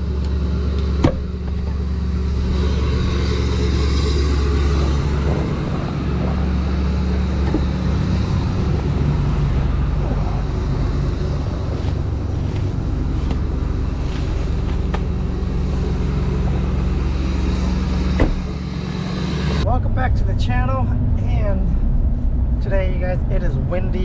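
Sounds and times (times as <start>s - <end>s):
truck engine running: 0.0s - 23.4s.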